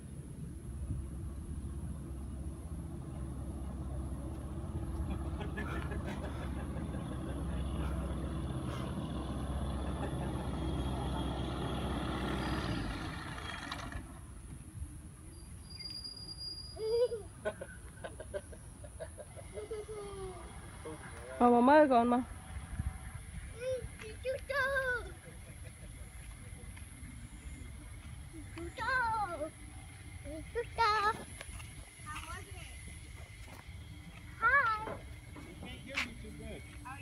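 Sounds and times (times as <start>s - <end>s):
light aircraft engine and propeller: 0.0s - 15.0s, 17.0s - 37.0s.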